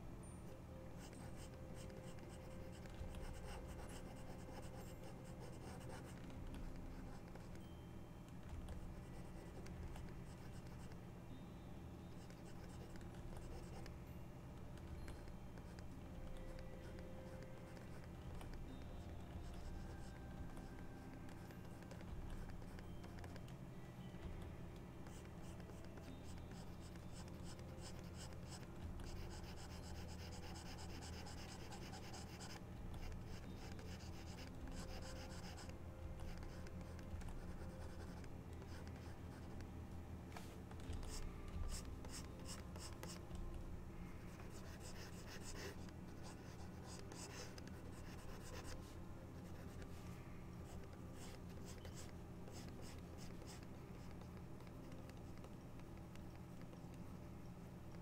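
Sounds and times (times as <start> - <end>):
steady low hum: 0.0 - 58.0
stylus scratching on tablet: 0.8 - 7.7, 8.5 - 11.0, 12.1 - 13.9, 14.6 - 23.5, 25.0 - 39.7, 40.4 - 43.3, 44.2 - 57.0.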